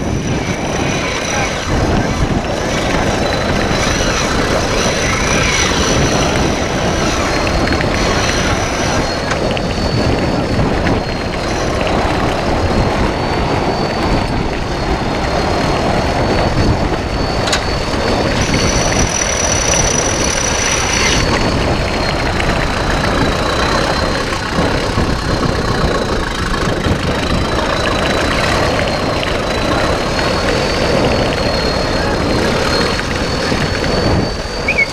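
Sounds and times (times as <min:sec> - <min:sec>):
off-road vehicle engine running: 0:00.0 - 0:34.9
thin high whine: 0:00.0 - 0:34.9.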